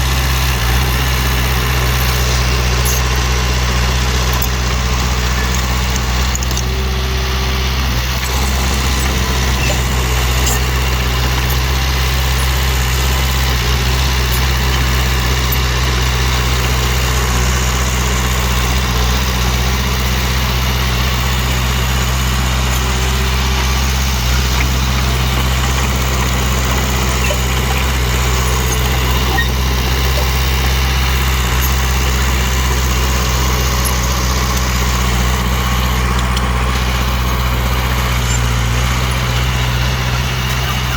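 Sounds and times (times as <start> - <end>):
dump truck engine running: 0.0 - 40.9.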